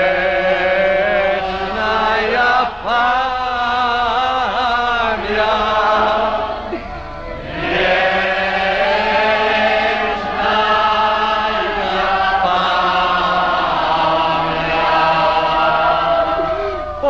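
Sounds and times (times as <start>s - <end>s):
choir chanting slow held notes: 0.0s - 17.0s.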